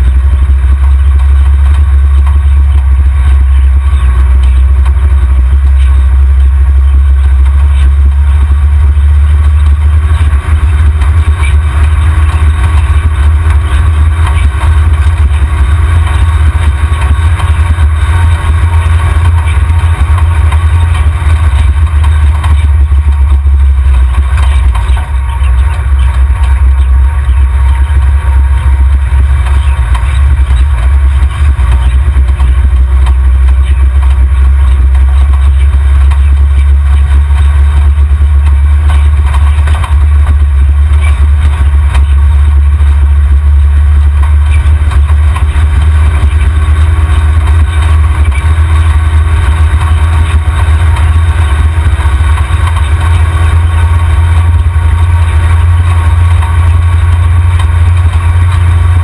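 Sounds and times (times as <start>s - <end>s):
buggy engine rumbling: 0.0s - 59.0s.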